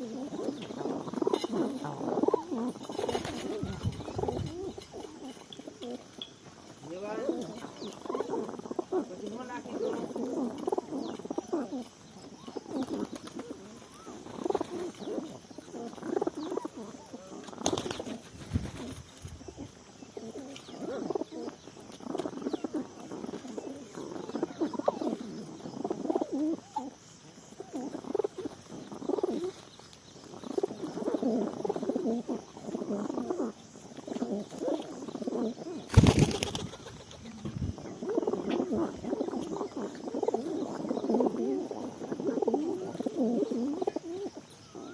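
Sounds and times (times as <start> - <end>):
pigeons cooing: 0.0 - 44.9.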